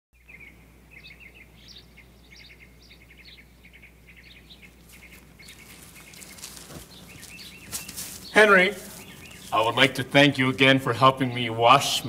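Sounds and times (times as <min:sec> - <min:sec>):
faint low hum: 0:00.2 - 0:12.0
small birds chirping: 0:00.2 - 0:12.0.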